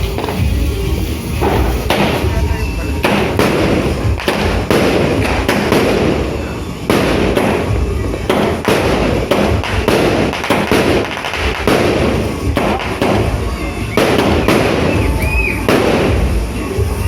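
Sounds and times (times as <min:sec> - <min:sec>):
dense din of explosions: 0:00.0 - 0:17.0
fireworks bangs: 0:00.0 - 0:17.0.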